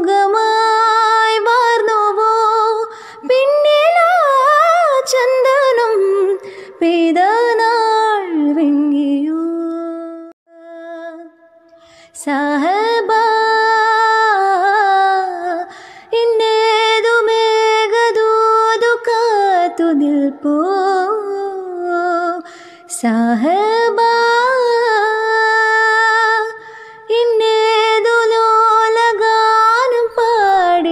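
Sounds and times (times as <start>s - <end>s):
woman singing slow melody: 0.0s - 30.9s.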